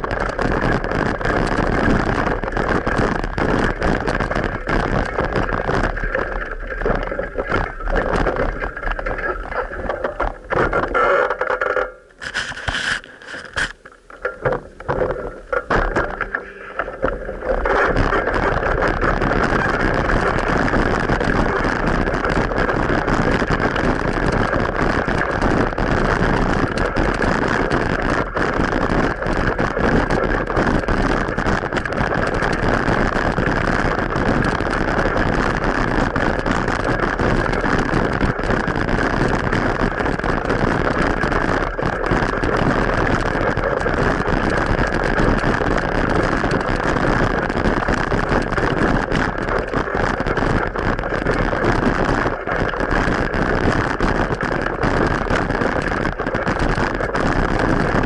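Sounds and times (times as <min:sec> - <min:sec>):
wind on microphone: 0:00.0 - 0:11.1, 0:15.8 - 0:58.0.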